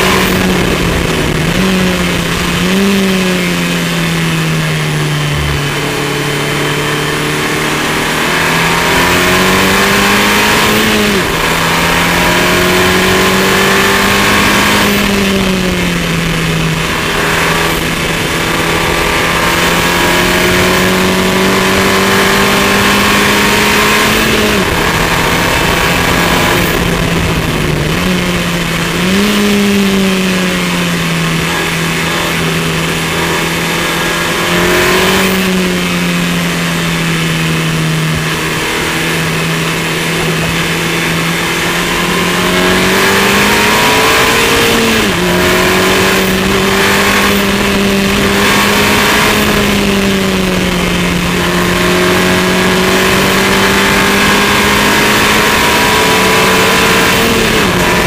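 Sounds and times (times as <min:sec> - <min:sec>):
car engine pulling hard: 0:00.0 - 0:58.0
wind rush: 0:00.0 - 0:58.0.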